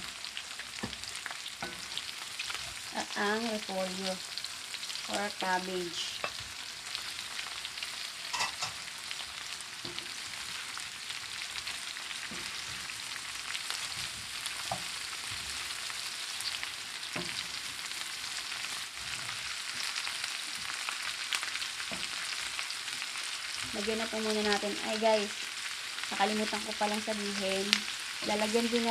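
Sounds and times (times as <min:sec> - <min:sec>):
vegetables sizzling in hot oil: 0:00.0 - 0:28.9.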